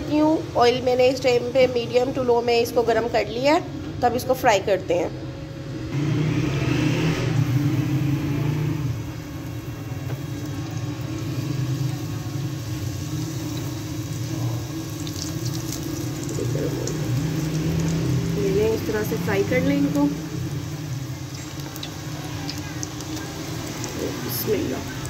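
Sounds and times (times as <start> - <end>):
pastries sizzling in hot oil: 0.0 - 4.6, 5.9 - 25.0.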